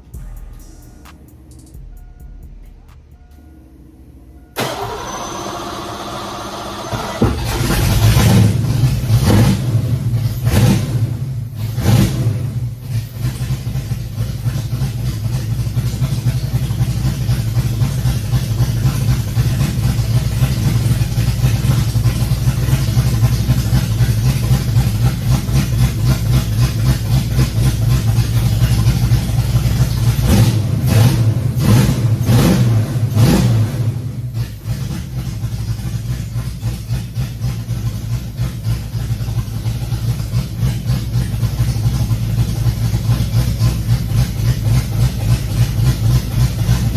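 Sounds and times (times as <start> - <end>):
car engine idling with loping chop: 0.0 - 46.9
car engine revving: 0.0 - 46.9.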